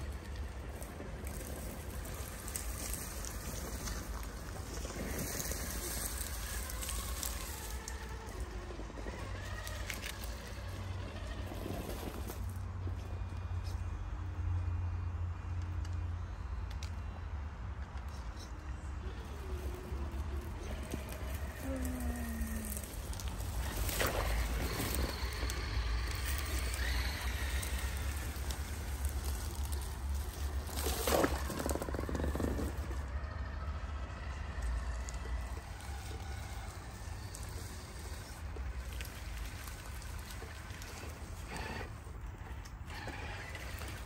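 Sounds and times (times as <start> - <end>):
electric motor whine: 0.0 - 13.7, 19.0 - 44.0
leaves crackling under tyres: 0.0 - 14.0, 18.2 - 44.0
electric drivetrain whirring: 0.0 - 44.0.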